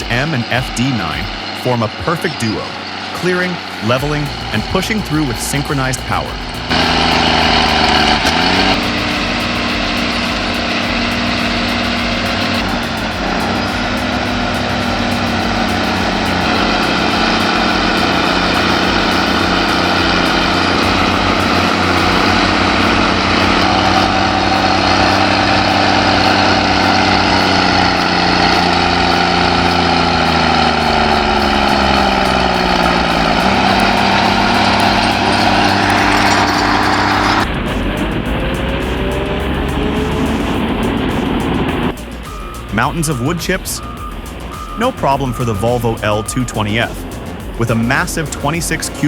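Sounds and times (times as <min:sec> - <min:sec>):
bulldozer diesel engine under load: 0:00.0 - 0:49.0.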